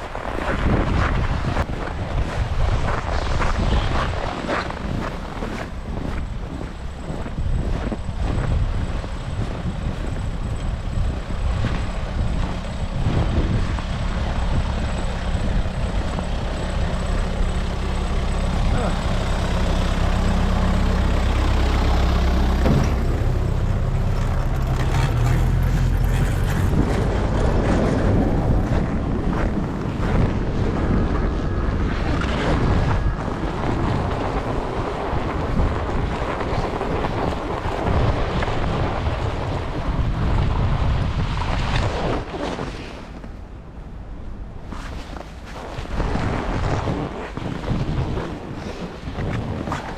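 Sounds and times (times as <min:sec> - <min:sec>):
wind buffeting microphone: 0:00.0 - 0:49.9
heavy machine engine running: 0:00.1 - 0:42.2.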